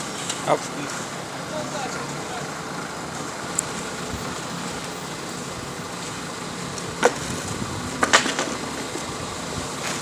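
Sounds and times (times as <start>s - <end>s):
engine and road noise: 0.0s - 10.0s.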